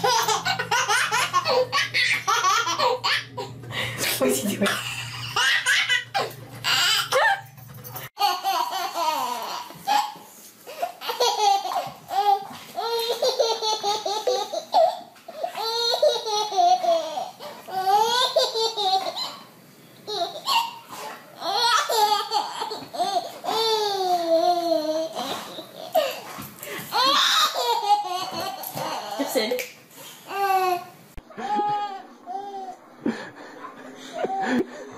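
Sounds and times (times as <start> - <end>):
baby laughing: 0.0 - 3.5, 4.7 - 7.4, 8.2 - 19.5, 20.1 - 26.3, 26.9 - 29.5, 30.3 - 34.8.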